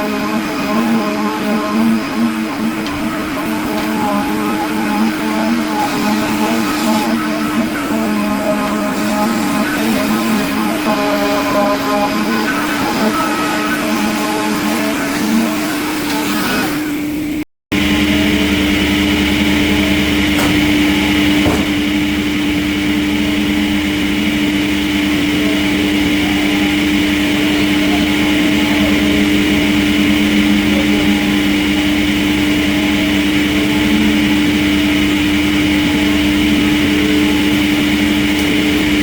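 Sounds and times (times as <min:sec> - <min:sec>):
machinery humming: 0:00.0 - 0:39.0.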